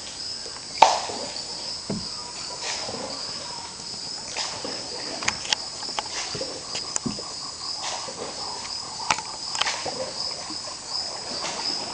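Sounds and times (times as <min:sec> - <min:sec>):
high-pitched insect chorus: 0:00.0 - 0:11.9.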